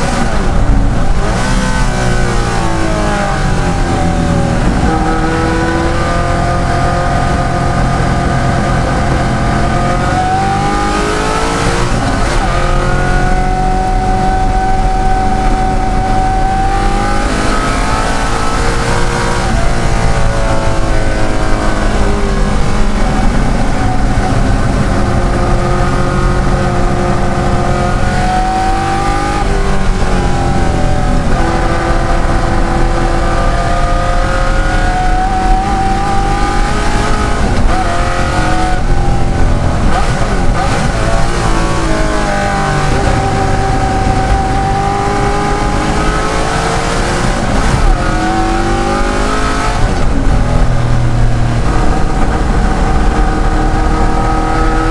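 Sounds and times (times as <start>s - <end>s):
car engine racing through gears: 0.0s - 54.9s.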